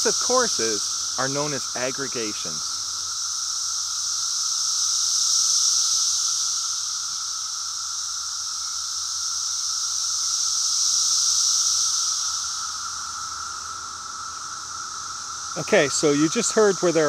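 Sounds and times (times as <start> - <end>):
cicadas buzzing drone: 0.0 - 17.0.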